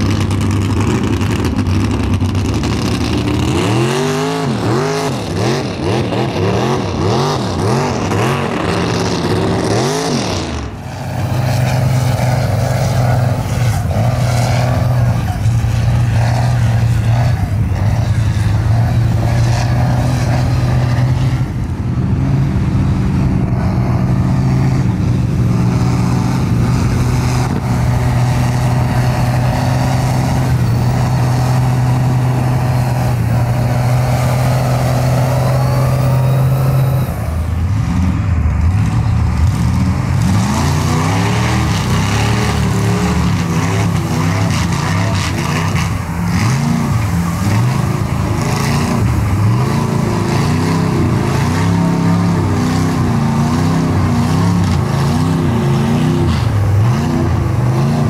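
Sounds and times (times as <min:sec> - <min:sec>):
truck engine droning and revving: 0:00.0 - 0:58.0.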